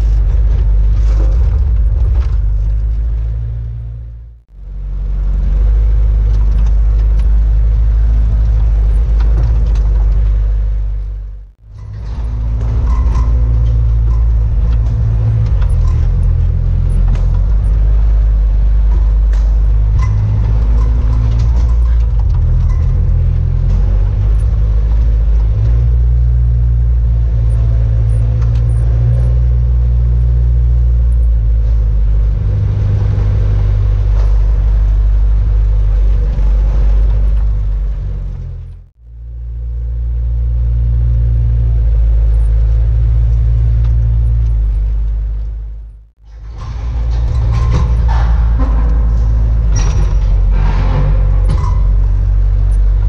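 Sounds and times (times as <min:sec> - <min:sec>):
diesel loader engine running: 0:00.0 - 0:53.0.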